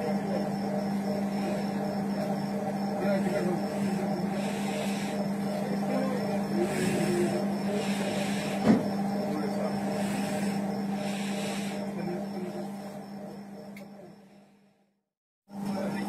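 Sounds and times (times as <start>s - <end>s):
faint voices: 0.0s - 14.2s.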